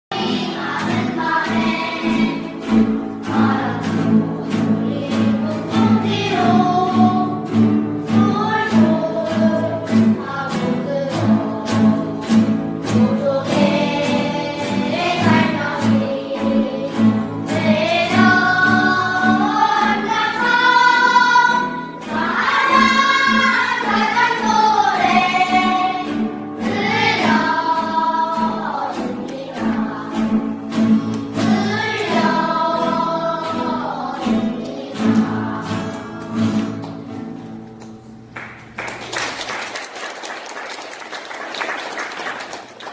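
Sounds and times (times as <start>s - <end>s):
choir singing: 0.1s - 36.8s.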